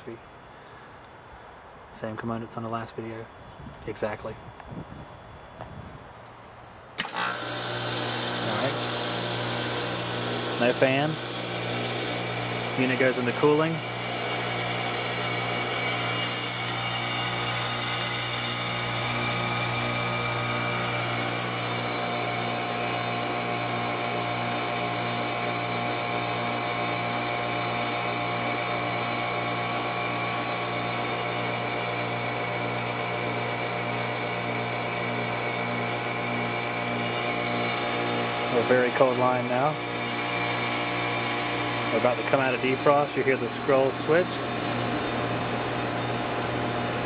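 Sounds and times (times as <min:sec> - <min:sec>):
compressor humming with hiss: 0:06.9 - 0:47.0.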